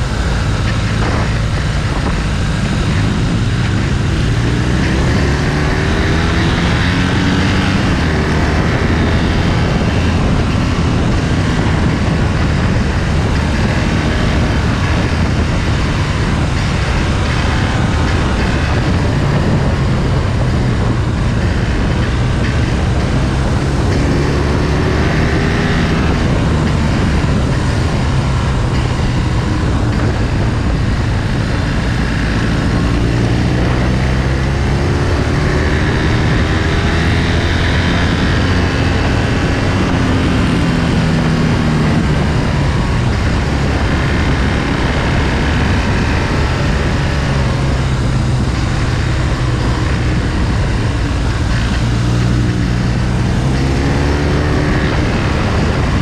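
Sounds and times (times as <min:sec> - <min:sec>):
motorcycle engine: 0:00.0 - 0:56.0
wind noise rushing: 0:00.0 - 0:56.0.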